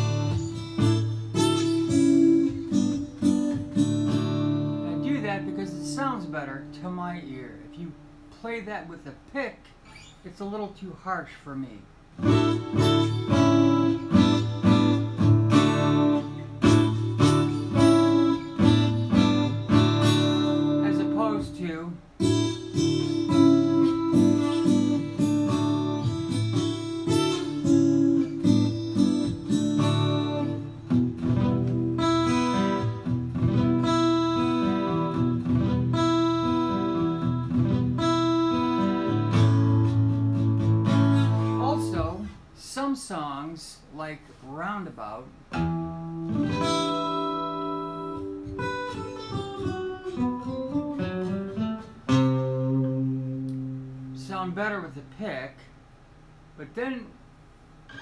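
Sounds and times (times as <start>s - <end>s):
acoustic guitar strumming: 0.0s - 10.7s, 12.1s - 42.4s, 44.6s - 55.6s.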